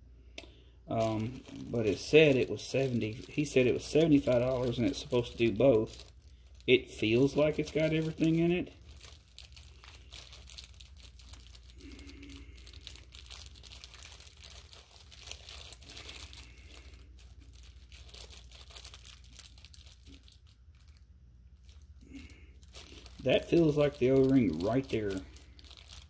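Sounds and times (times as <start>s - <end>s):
plastic bags crinkling: 0.9s - 26.0s.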